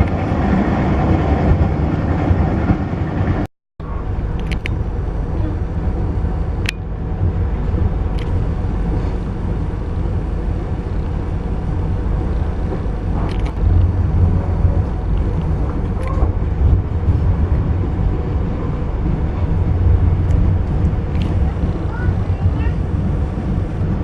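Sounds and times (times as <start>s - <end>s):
passenger train rumble: 0.0s - 24.0s.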